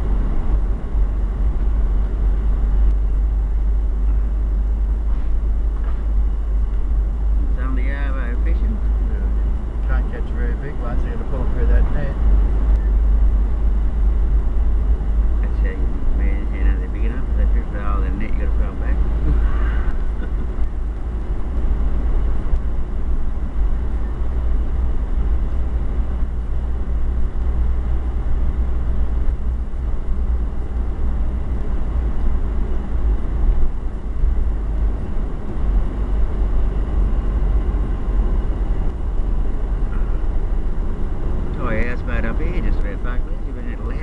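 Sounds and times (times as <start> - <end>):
car engine and road rumble: 0.0 - 44.0.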